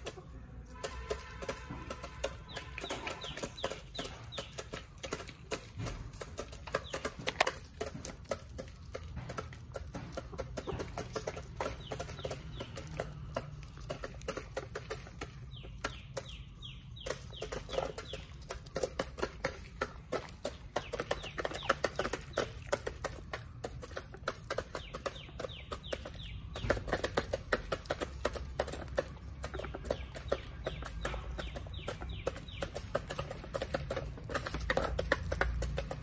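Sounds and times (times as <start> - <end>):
chickens clucking: 0.0 - 36.0
pecking taps: 0.0 - 36.0.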